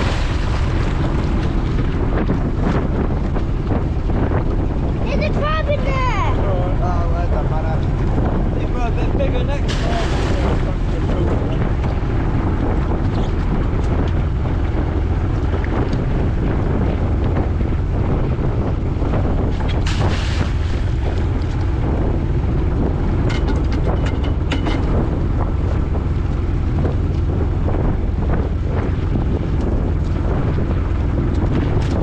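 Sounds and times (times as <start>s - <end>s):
boat engine drone: 0.0s - 32.0s
water rushing along hull: 0.0s - 32.0s
wind buffeting microphone: 0.0s - 32.0s.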